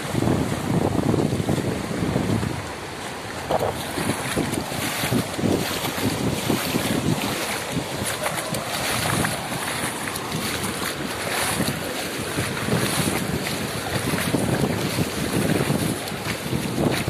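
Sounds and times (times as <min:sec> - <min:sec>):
bare feet splashing in water: 0:00.0 - 0:17.0
breaking surf: 0:00.0 - 0:17.0
wind buffeting microphone: 0:00.0 - 0:17.0.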